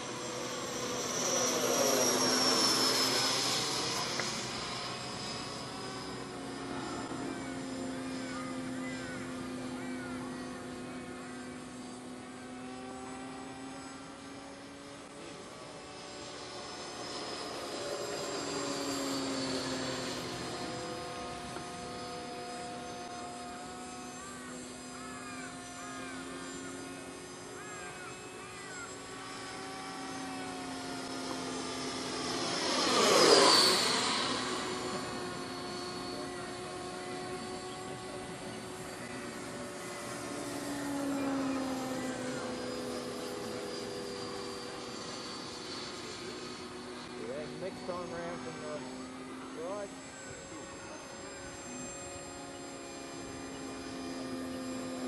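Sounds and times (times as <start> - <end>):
model jet ducted fan whining: 0.0 - 55.0.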